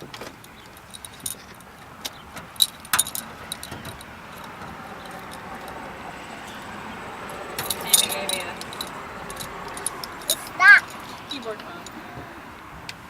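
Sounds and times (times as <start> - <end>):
keys jangling against a lock: 0.1 - 5.9, 7.2 - 12.0.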